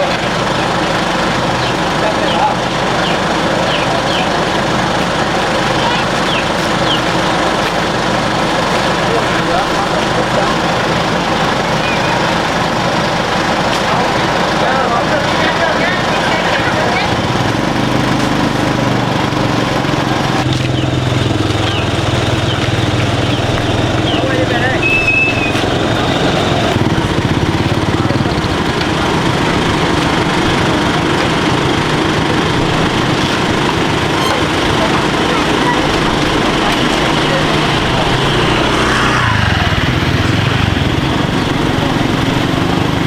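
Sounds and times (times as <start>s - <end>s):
motorbike engine running: 0.0s - 43.0s
road and wind noise: 0.0s - 43.0s.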